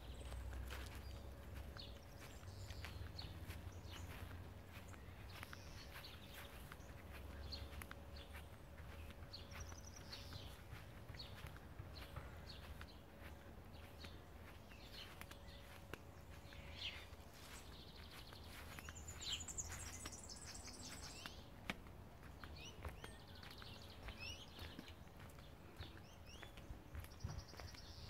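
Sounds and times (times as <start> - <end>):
faint birdsong chirps and twittering: 0.0 - 28.0.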